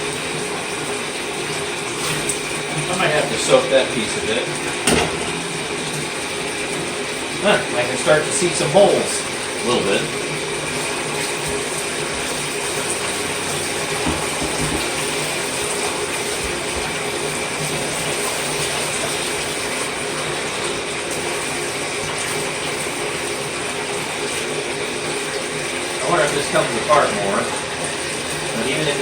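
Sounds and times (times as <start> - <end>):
tap water running: 0.0 - 29.0.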